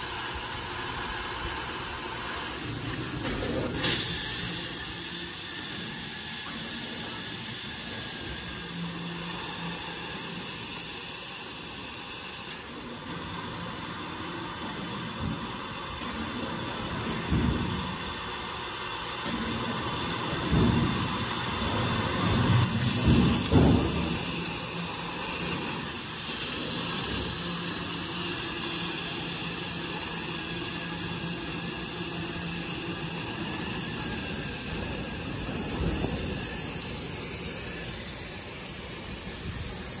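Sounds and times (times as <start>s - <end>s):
cutting torch hissing: 0.0s - 40.0s.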